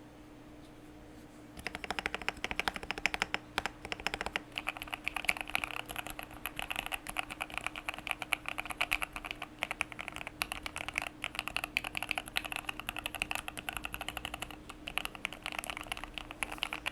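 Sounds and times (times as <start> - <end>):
mechanical keyboard typing: 1.6 - 16.9.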